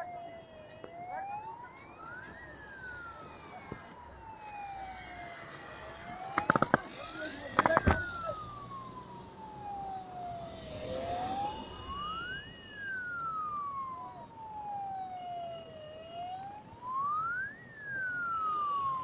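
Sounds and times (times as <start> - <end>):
wailing siren: 0.0 - 19.0.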